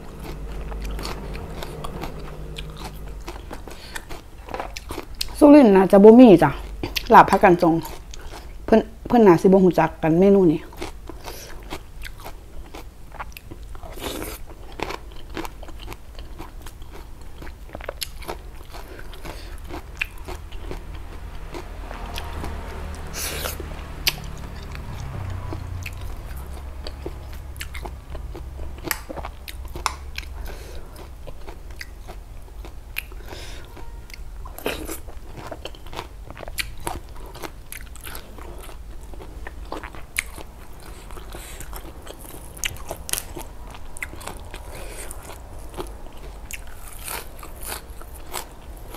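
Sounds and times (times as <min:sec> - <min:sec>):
person chewing and crunching: 0:00.0 - 0:05.4, 0:06.4 - 0:08.6, 0:10.6 - 0:48.9.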